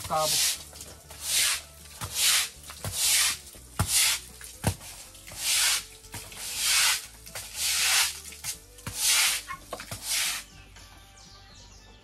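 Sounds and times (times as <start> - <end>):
broom scrubbing wet floor: 0.0 - 10.5.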